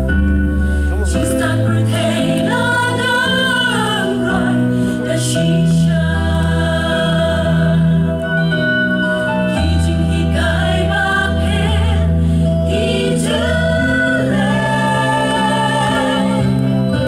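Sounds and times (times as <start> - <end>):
choir singing a hymn: 0.9 - 17.0.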